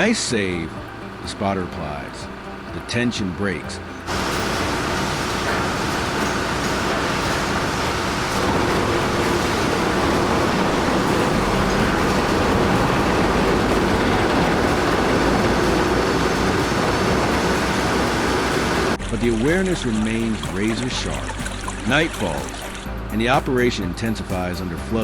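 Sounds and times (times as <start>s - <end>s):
heavy machinery rumble and rattle: 3.8s - 25.0s.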